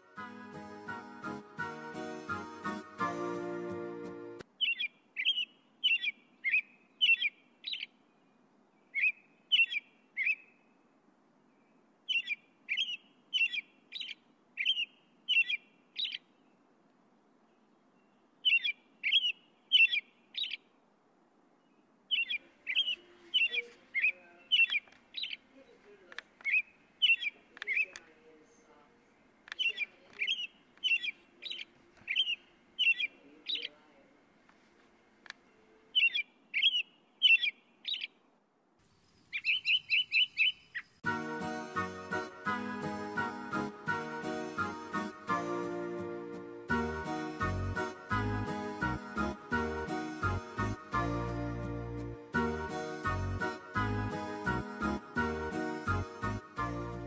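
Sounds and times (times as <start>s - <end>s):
songbird chirping: 4.4s - 57.0s.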